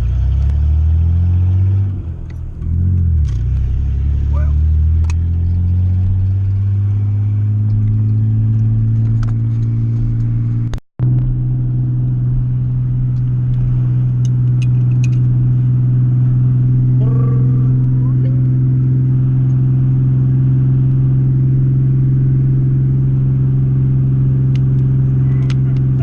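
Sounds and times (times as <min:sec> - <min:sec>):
car engine running while driving: 0:00.0 - 0:26.0.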